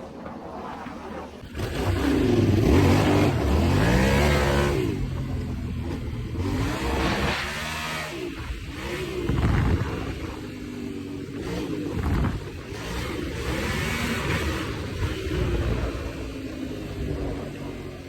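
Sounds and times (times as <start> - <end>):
motorcycle engine revving: 1.4 - 18.0.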